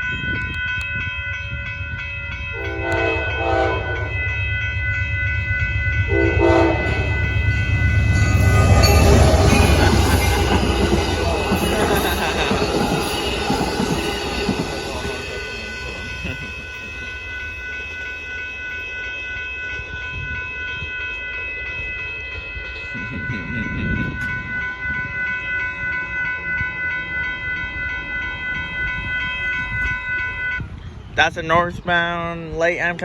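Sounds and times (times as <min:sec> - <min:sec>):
railroad crossing bell ringing: 0:00.0 - 0:32.9
passenger train rumbling past: 0:00.0 - 0:33.0.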